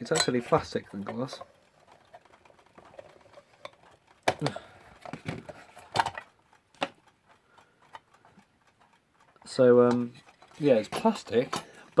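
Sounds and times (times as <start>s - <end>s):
mechanical clock ticking: 0.0s - 12.0s.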